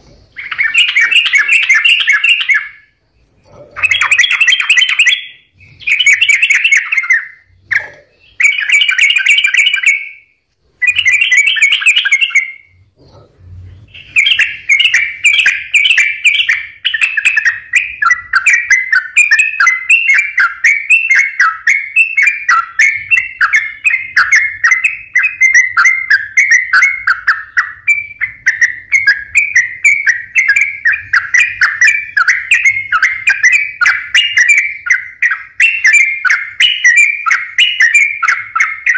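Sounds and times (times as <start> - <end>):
bird song with chattering notes: 0.0 - 38.9.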